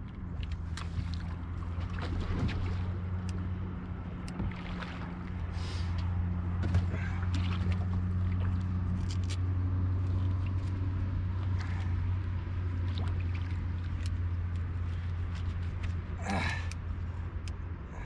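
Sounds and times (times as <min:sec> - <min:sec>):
clicks drips and wet squelches: 0:00.0 - 0:17.7
low hum: 0:00.0 - 0:18.0.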